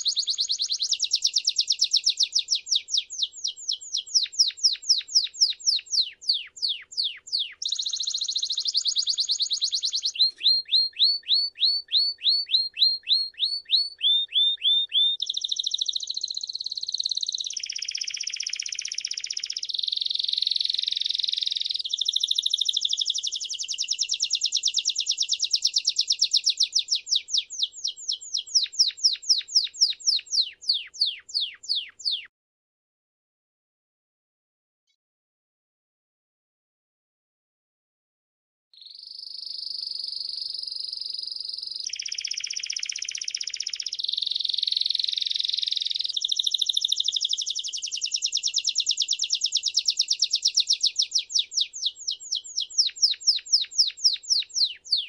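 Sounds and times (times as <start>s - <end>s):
canary singing trills: 0.0s - 32.3s, 38.8s - 55.0s.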